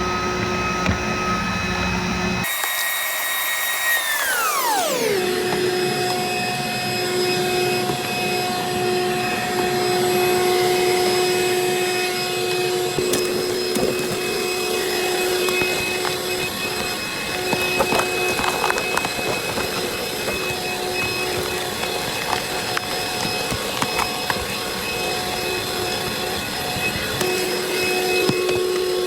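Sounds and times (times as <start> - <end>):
vacuum cleaner motor whining: 0.0 - 29.0.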